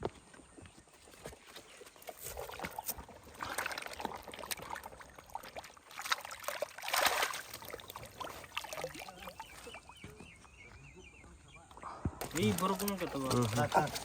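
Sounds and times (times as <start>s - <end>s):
water splashing and sloshing: 1.0s - 10.4s, 12.1s - 14.0s.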